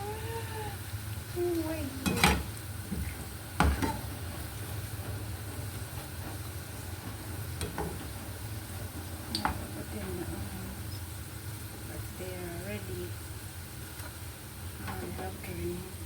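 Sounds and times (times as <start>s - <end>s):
onions sizzling in a pan: 0.0s - 16.0s.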